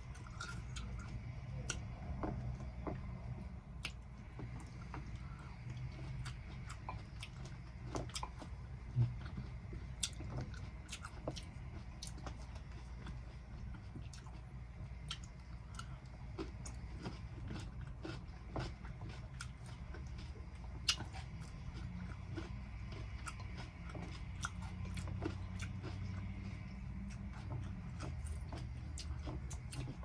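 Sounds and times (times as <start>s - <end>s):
chewing crunchy cucumber: 0.0s - 30.0s
low hum: 0.0s - 30.0s.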